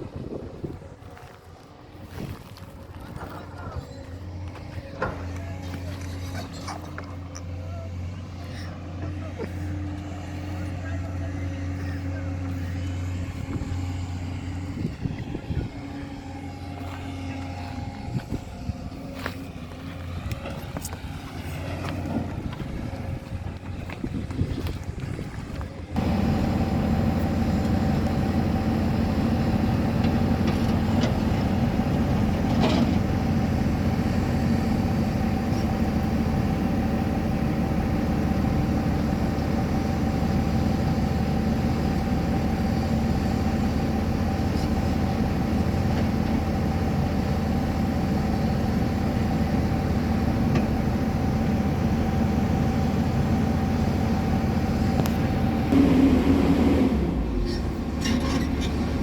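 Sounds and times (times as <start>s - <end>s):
excavator diesel engine drone: 0.0s - 59.0s.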